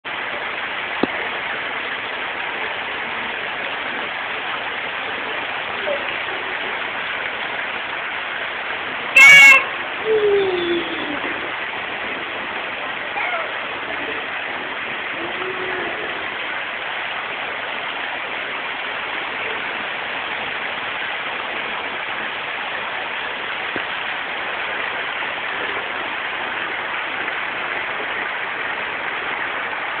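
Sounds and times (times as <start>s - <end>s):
waterfall splashing down rocks: 0.1s - 30.0s.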